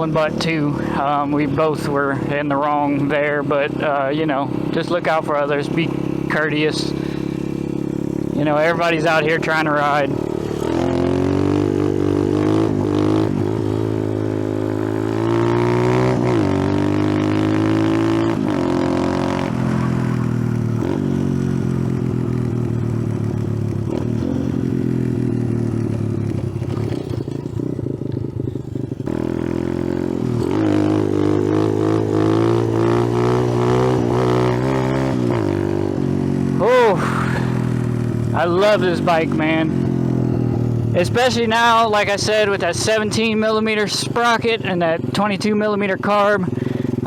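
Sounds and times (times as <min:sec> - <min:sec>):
mini bike engine revving: 0:02.9 - 0:45.2, 0:46.4 - 0:47.0.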